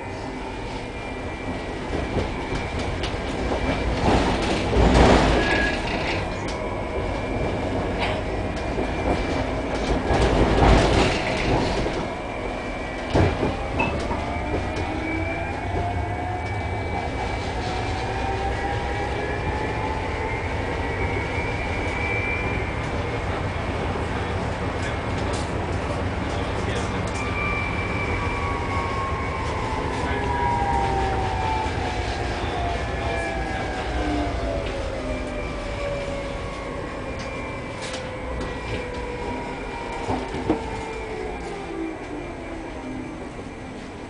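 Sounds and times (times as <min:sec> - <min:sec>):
tram rolling noise: 0:00.0 - 0:44.0
tram rumbles: 0:00.0 - 0:44.0.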